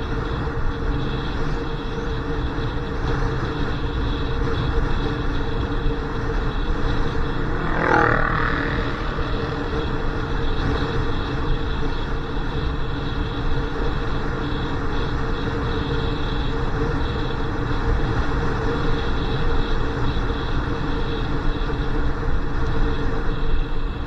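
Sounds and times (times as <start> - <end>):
motorcycle engine running: 0.0 - 20.2
wind rumble on microphone: 0.0 - 24.0.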